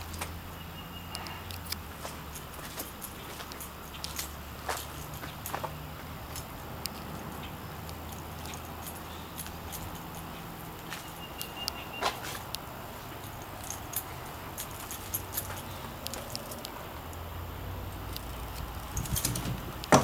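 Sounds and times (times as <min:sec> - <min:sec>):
light footsteps: 0:01.2 - 0:20.0.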